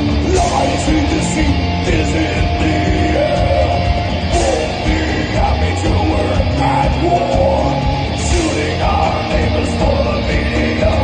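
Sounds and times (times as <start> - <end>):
bass guitar: 0.0 - 11.0
distorted electric guitar: 0.0 - 11.0
drums: 0.0 - 11.0
person singing: 0.0 - 11.0.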